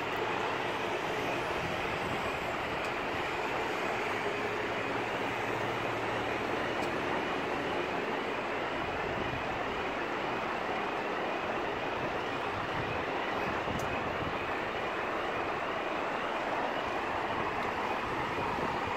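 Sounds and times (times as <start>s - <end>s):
diesel engines running: 0.0s - 18.9s
street traffic noise: 0.0s - 18.9s.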